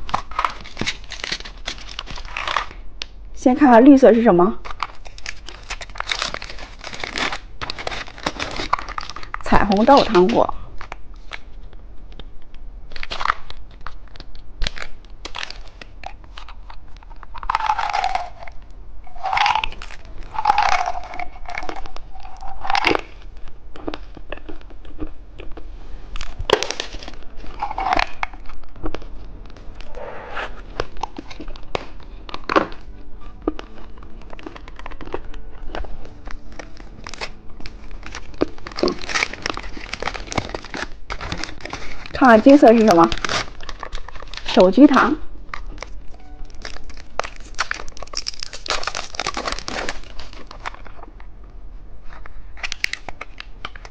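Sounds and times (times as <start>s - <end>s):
candy crunching: 0.0s - 3.2s, 4.1s - 51.3s, 52.1s - 53.9s
plastic packaging crinkling and tearing: 0.0s - 3.2s, 4.1s - 29.9s, 30.6s - 51.3s, 52.0s - 53.9s.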